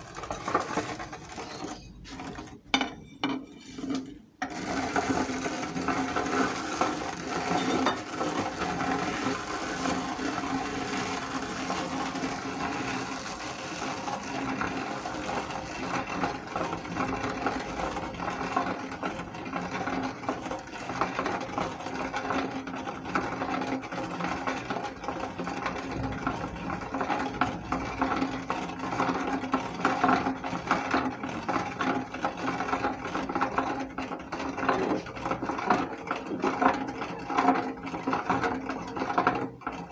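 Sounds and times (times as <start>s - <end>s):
meat grinder motor humming: 0.0s - 2.6s, 4.4s - 39.9s
noodles crackling through grinder: 0.0s - 39.9s.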